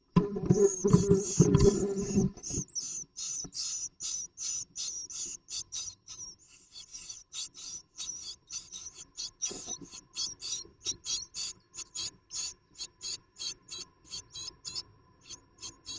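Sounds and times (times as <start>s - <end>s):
chicks high rasping calls: 0.5s - 15.9s.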